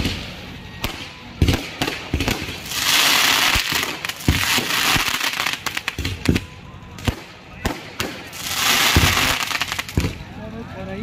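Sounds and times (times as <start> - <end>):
fireworks bangs: 0.0 - 10.4.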